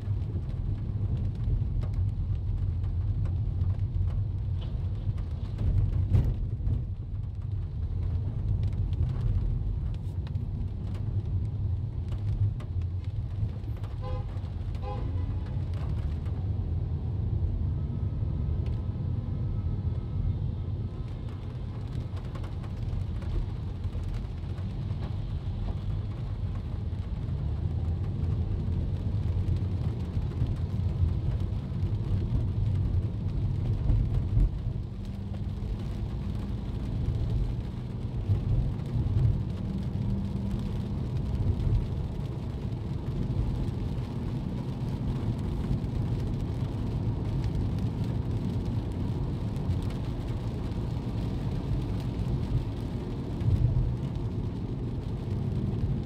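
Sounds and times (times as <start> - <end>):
rain on car body: 0.0 - 56.0
road and engine rumble: 0.0 - 56.0.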